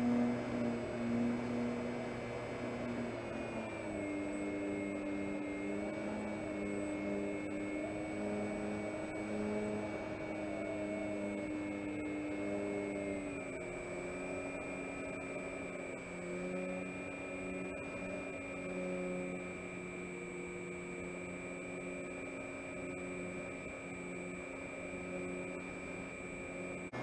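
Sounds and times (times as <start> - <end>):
model plane motor and propeller whine: 0.0 - 27.0.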